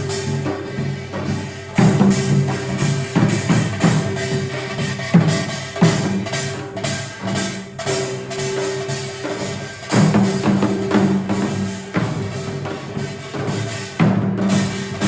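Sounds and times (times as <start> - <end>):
percussion strikes: 0.0 - 15.0
traditional ensemble music: 0.0 - 15.0.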